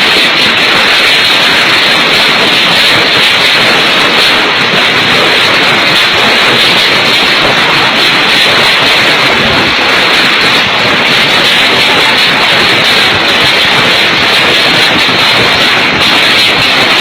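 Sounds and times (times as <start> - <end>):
hail clattering on hard surfaces: 0.0 - 17.0.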